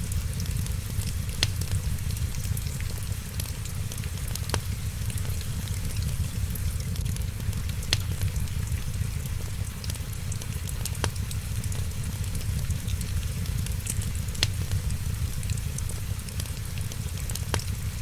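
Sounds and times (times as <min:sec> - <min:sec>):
sharp fire pops: 0:00.0 - 0:09.8, 0:10.6 - 0:18.0
rain hissing: 0:00.0 - 0:18.0
wood fire crackling: 0:00.0 - 0:18.0.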